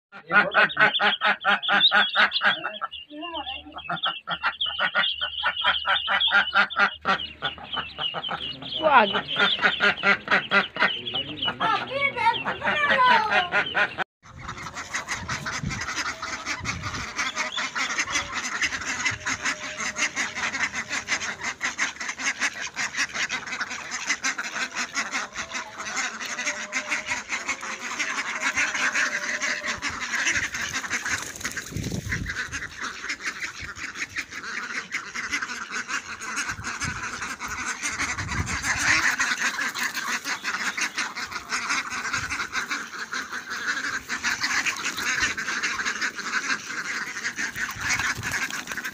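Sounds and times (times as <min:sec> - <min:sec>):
ducks quacking: 0:00.1 - 0:48.9.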